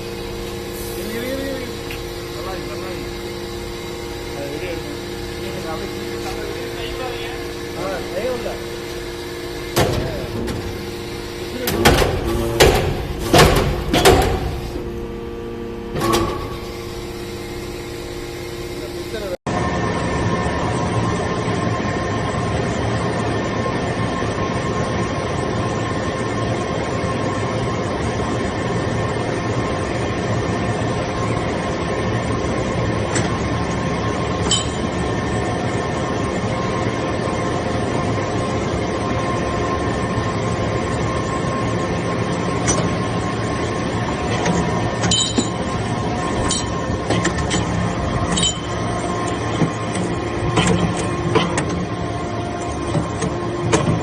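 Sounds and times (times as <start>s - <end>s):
baler machine hum: 0.0s - 54.0s.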